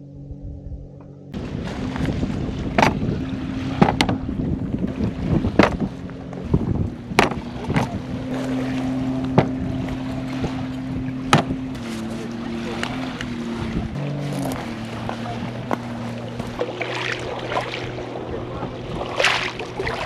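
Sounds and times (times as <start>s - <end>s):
low hum: 0.0s - 20.0s
wind: 0.0s - 20.0s.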